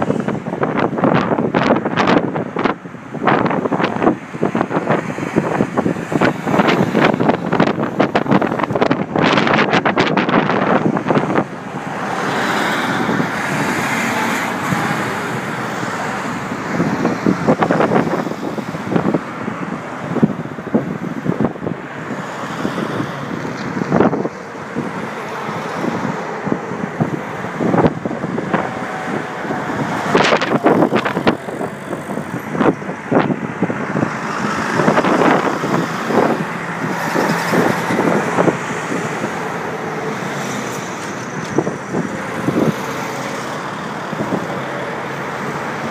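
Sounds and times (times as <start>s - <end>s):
road traffic passing close: 0.0s - 45.9s
truck diesel engine: 0.0s - 45.9s.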